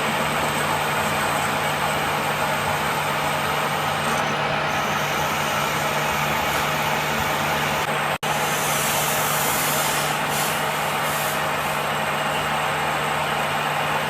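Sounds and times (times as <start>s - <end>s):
machine running with low hum: 0.0s - 14.0s.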